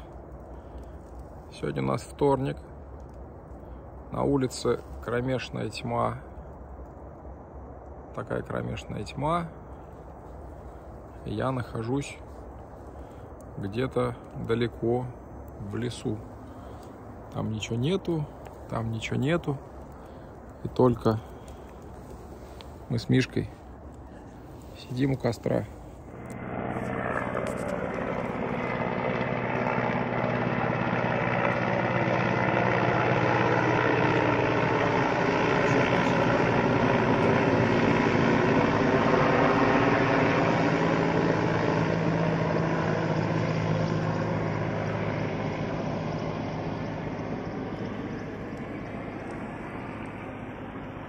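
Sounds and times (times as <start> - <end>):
aircraft flying overhead: 0.0 - 51.0.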